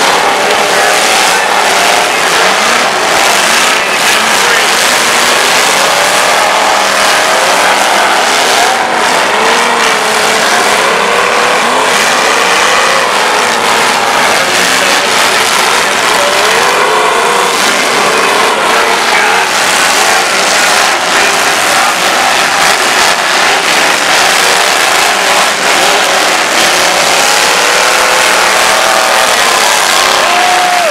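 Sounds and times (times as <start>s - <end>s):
car engines revving hard: 0.0s - 30.9s.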